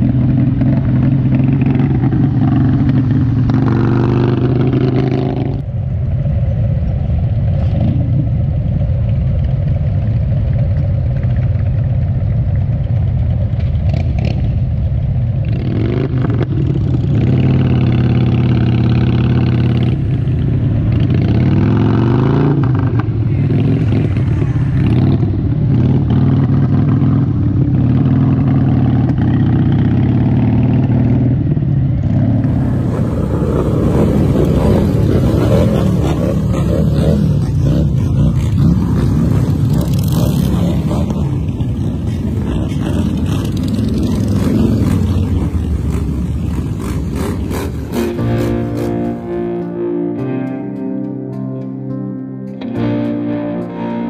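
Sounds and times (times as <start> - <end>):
group of motorcycles droning: 0.0 - 54.0.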